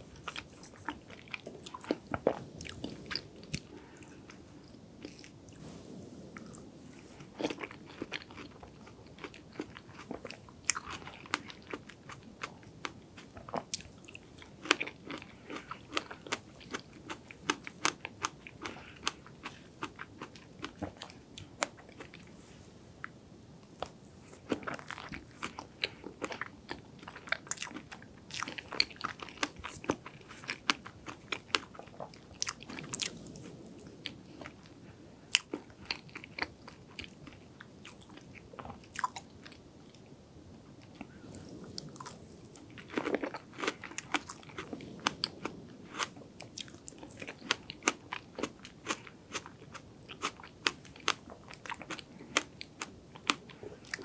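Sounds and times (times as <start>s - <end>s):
chewing with mouth smacks: 0.1s - 5.6s, 6.4s - 22.3s, 23.8s - 34.7s, 35.3s - 40.1s, 40.8s - 54.0s.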